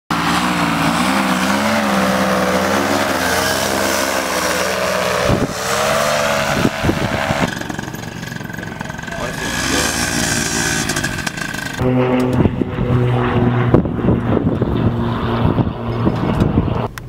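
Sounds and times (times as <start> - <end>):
paramotor engine running: 0.1 - 17.0
wind buffeting microphone: 0.5 - 17.0.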